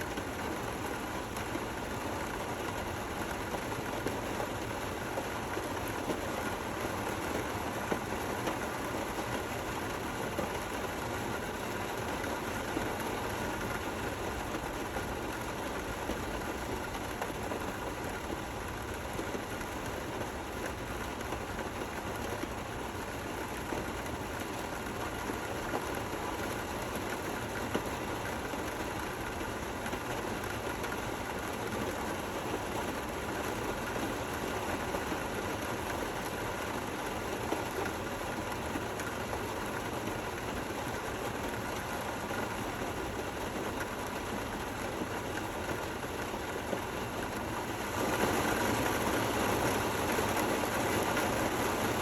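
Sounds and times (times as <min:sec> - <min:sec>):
gentle rain: 0:00.0 - 0:52.0
louder raindrops: 0:00.1 - 0:52.0.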